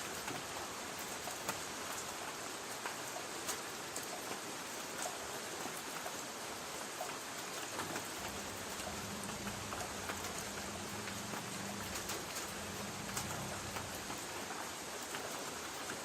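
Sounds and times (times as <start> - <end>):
rain on a tin roof: 0.0 - 16.0.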